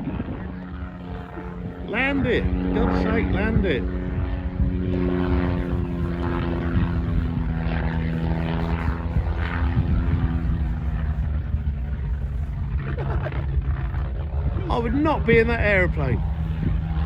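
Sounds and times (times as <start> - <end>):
propeller aircraft engine overhead: 0.0 - 17.0.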